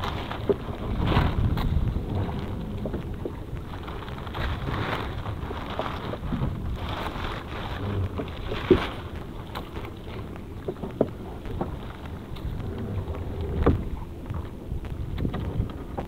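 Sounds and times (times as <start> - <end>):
wet net rustling and dragging: 0.0 - 14.5
low rumble: 0.0 - 16.0
wind buffeting microphone: 0.0 - 16.0.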